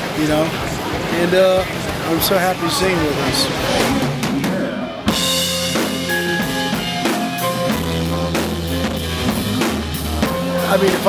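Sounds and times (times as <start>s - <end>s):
heavy rock band music: 1.6s - 11.0s.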